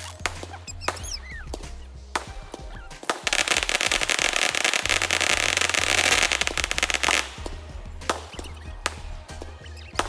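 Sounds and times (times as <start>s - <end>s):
fireworks crackling: 0.0s - 10.0s
firework bangs: 0.2s - 10.0s.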